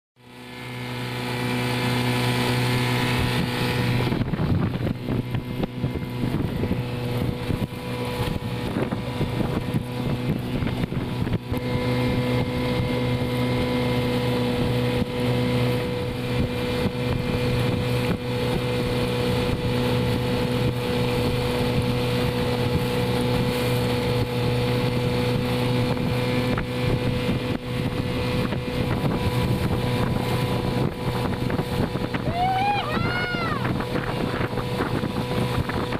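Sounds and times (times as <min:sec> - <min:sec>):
outboard motor running: 0:00.2 - 0:35.9
water rushing along hull: 0:00.2 - 0:35.9
wind on microphone: 0:01.2 - 0:35.9.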